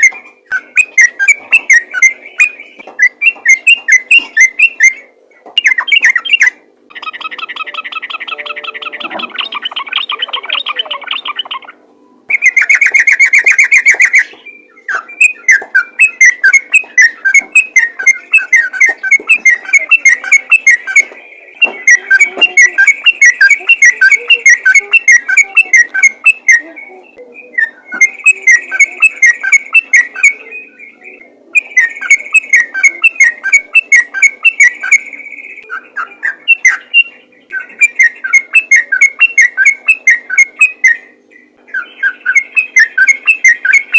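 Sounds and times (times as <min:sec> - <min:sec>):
bulbul singing repeated notes: 0:00.0 - 0:43.9.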